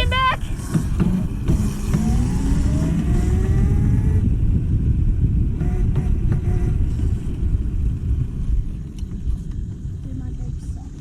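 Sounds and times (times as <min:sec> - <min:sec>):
scooter wind and road noise: 0:00.0 - 0:11.0.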